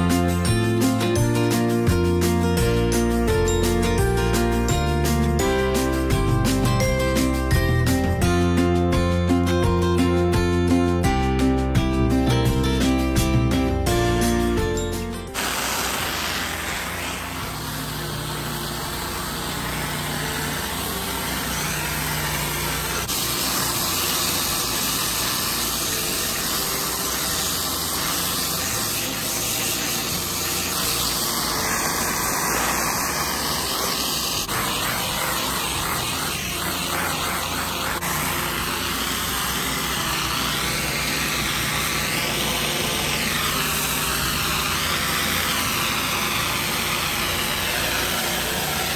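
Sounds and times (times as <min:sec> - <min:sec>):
high-pressure water spraying concrete: 0:00.0 - 0:11.1, 0:12.0 - 0:48.9
pressure washer engine droning: 0:00.0 - 0:48.9.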